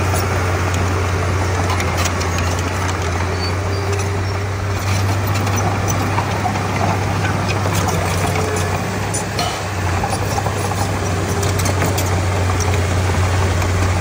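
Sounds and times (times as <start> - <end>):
bulldozer diesel engine running: 0.0 - 14.0
light clicks and clanks: 1.5 - 12.8.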